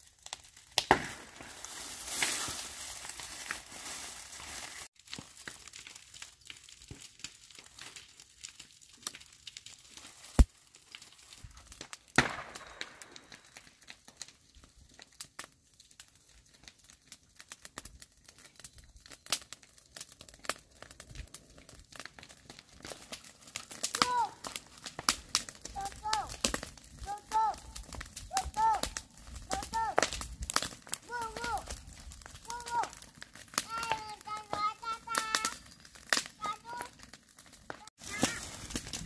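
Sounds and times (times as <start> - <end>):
dry grass rustling and crackling: 0.0 - 39.0.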